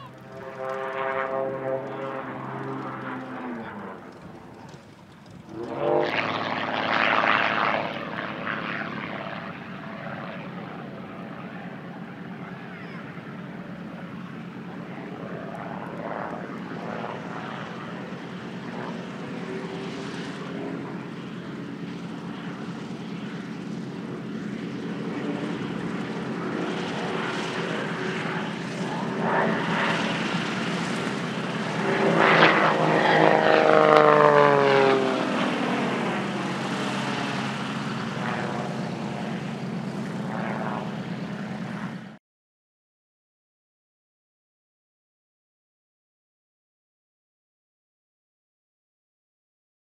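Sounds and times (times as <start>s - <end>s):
radial aircraft engines taxiing: 0.0s - 42.2s.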